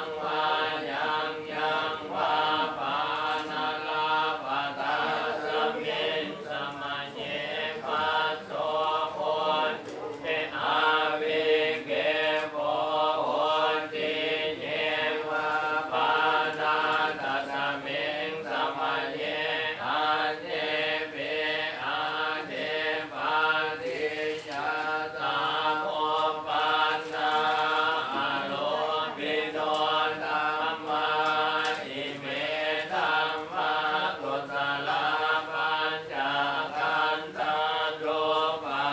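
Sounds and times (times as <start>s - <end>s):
group chanting in unison: 0.0s - 38.9s.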